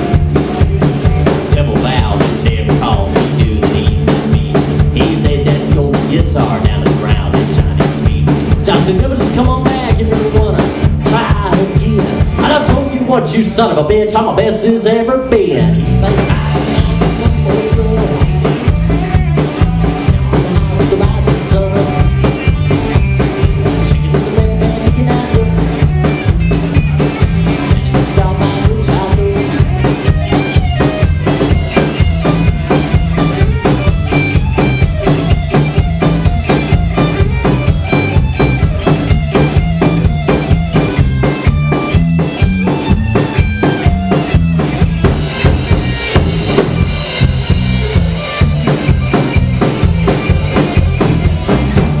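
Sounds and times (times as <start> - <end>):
driving drumbeat: 0.0 - 52.0
electric bass: 0.0 - 52.0
electric guitar: 0.0 - 52.0.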